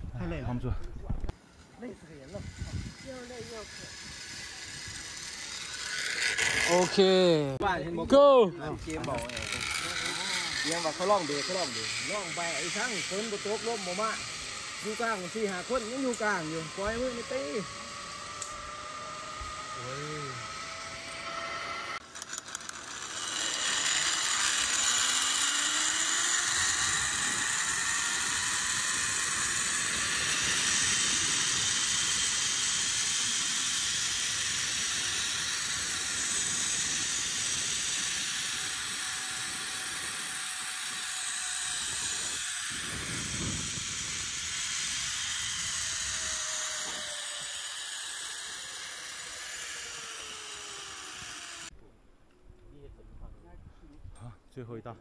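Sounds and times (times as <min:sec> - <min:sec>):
faint sliding whining tones: 0:00.9 - 0:54.0
pulleys whirring on steel cable: 0:01.3 - 0:51.8.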